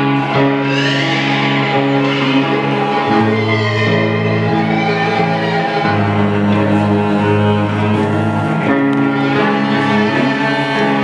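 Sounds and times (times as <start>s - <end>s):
bowed cello and violin: 0.0s - 11.0s.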